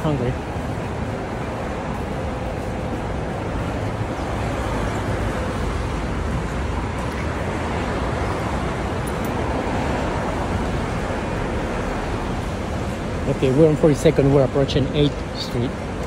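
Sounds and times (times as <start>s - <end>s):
busy street traffic rumble: 0.0s - 16.0s.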